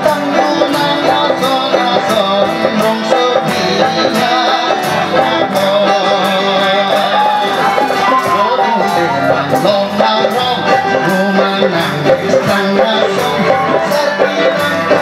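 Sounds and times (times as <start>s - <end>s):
amplified backing music: 0.0s - 15.0s
man singing into a microphone: 0.0s - 15.0s.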